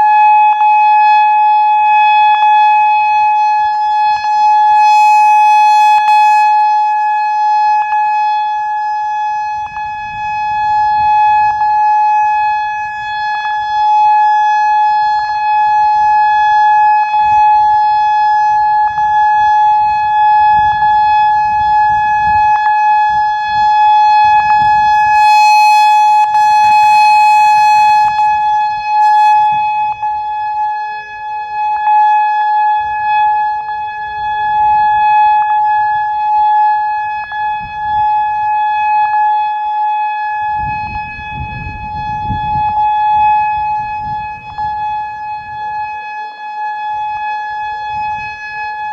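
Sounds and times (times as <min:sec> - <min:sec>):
warning siren steady tone: 0:00.0 - 0:48.9.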